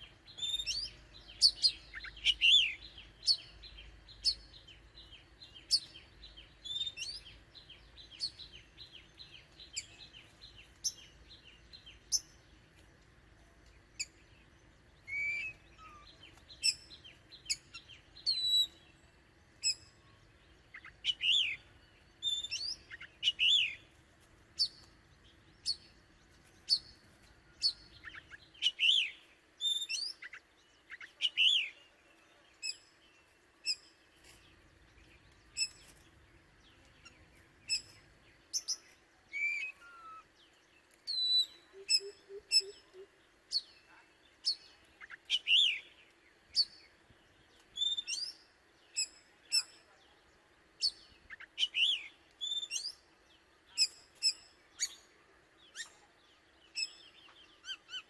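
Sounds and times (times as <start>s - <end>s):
bird singing whistles and chirps: 0.0s - 12.4s, 13.9s - 19.0s, 19.6s - 23.8s, 26.6s - 36.0s, 37.0s - 46.9s, 47.6s - 49.9s, 50.8s - 58.0s.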